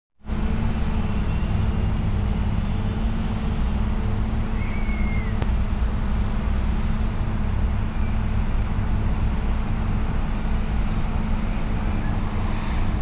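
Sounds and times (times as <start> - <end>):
freeway traffic rushing: 0.2 - 13.0
low constant hum: 0.2 - 13.0.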